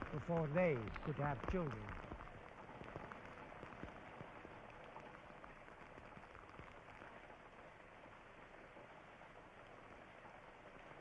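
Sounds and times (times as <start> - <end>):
faint rain on puddled water: 0.0 - 11.0.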